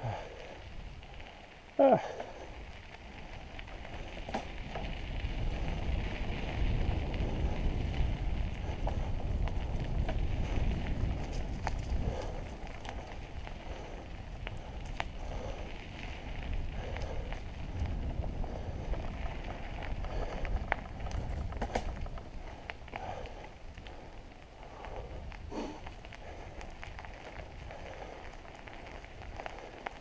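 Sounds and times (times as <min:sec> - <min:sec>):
bike tyres rolling on trail: 0:00.0 - 0:30.0
leaves and twigs crackling: 0:00.0 - 0:30.0.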